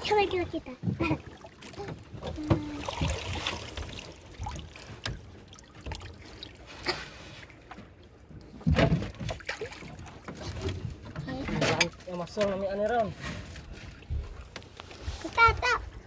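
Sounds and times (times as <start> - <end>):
sea water splashing: 0.0 - 16.0.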